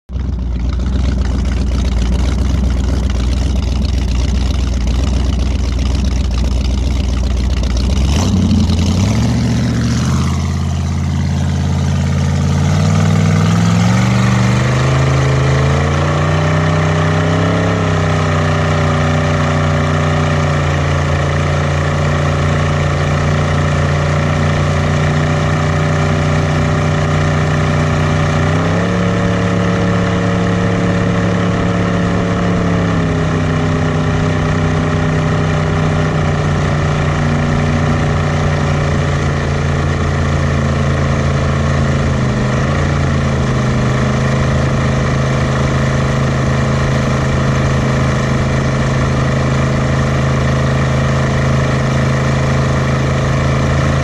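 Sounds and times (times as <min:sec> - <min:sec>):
boat engine revving: 0:00.1 - 0:54.0
rushing wake water: 0:00.1 - 0:54.0.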